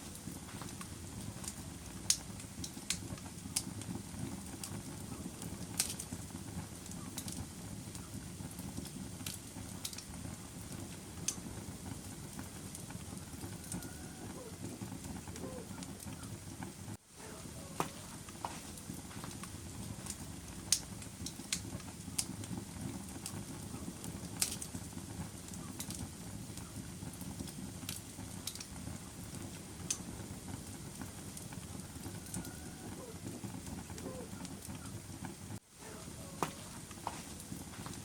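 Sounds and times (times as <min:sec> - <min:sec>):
fire crackling and popping: 0:00.0 - 0:38.0
low rumble of flames: 0:00.0 - 0:38.0.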